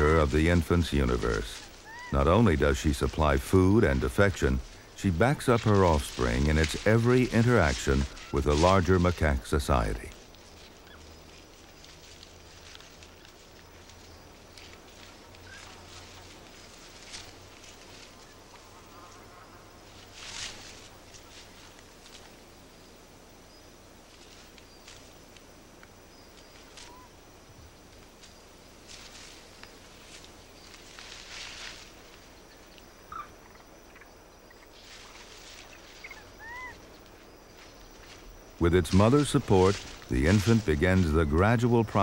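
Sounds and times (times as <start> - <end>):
high insect hum: 0.0 - 42.0.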